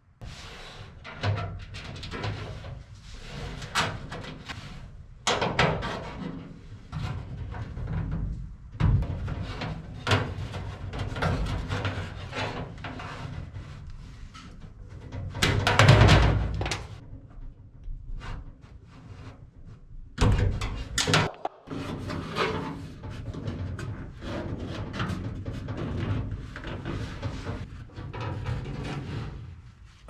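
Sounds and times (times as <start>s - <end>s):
plastic tubing rubbing and scraping: 0.2s - 17.2s, 17.9s - 30.0s.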